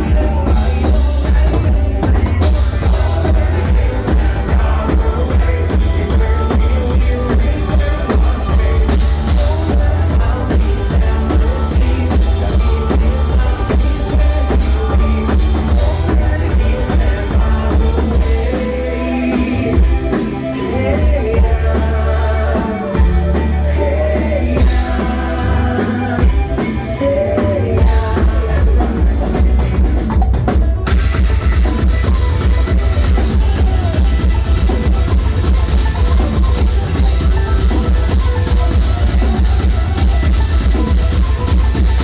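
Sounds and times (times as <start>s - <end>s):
drum kit beat: 0.0s - 42.0s
heavy bass line: 0.0s - 42.0s
live band playing folk rock: 0.0s - 42.0s.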